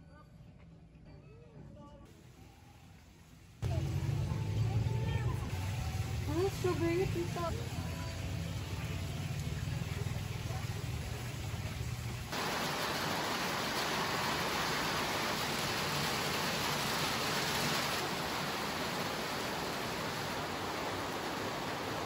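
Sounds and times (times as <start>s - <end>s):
fan humming: 2.1s - 22.0s.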